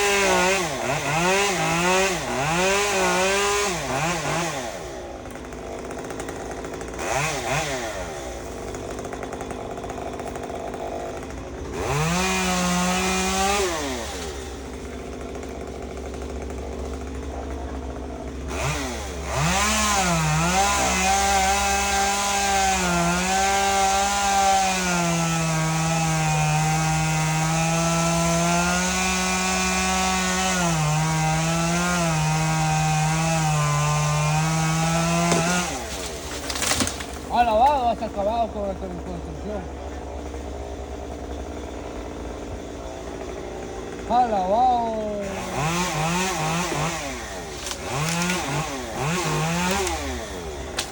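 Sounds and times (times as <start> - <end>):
chainsaw idling and revving: 0.0 - 50.9.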